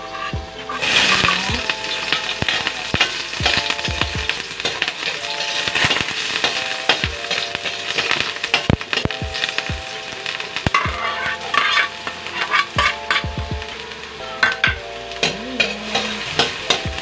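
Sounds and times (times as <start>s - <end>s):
food sizzling in hot oil: 0.0s - 17.0s
metal ladle scraping wok: 0.0s - 17.0s.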